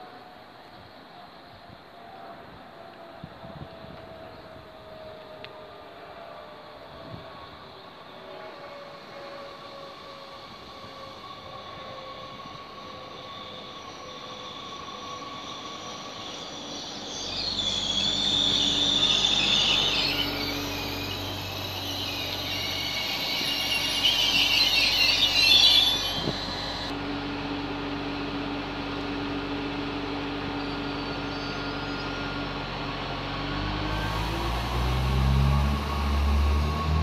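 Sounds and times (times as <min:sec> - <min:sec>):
train wheels squealing on rails: 0:00.0 - 0:27.0, 0:28.8 - 0:37.0
standing train humming: 0:07.0 - 0:37.0.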